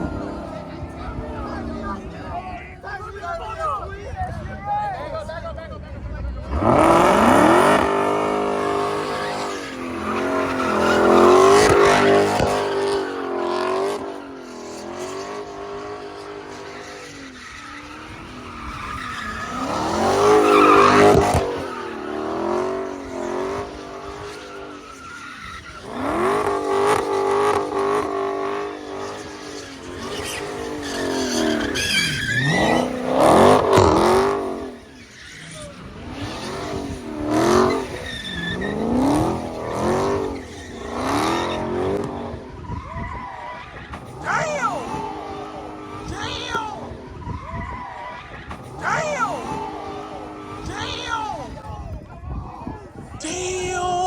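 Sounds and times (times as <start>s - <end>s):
car engines revving hard: 0.0s - 54.0s
tyres squealing and skidding: 0.0s - 54.0s.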